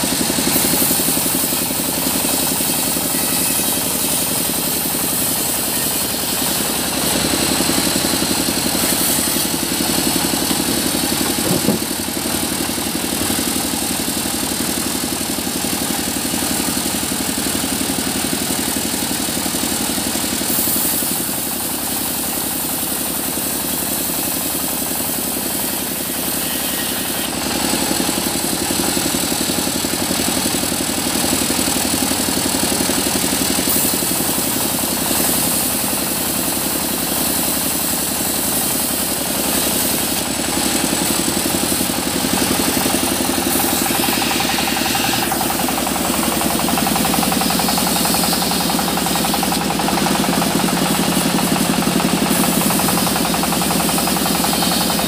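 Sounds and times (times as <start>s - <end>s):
sawmill machinery droning: 0.0s - 55.0s.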